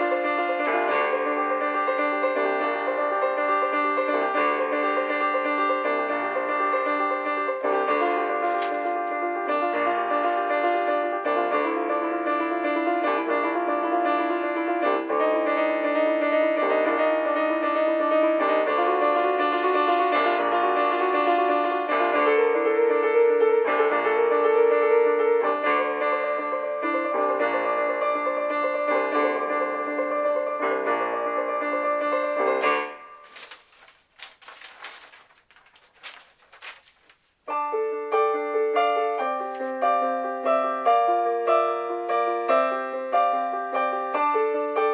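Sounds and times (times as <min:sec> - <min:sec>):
piano block chords: 0:00.0 - 0:33.2, 0:37.5 - 0:44.9.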